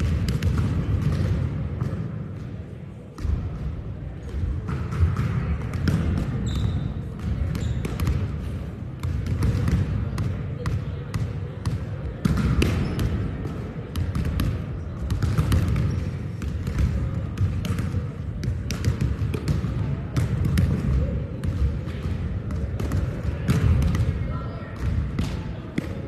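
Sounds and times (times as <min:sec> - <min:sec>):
volleyballs smacking and bouncing: 0:00.0 - 0:26.0.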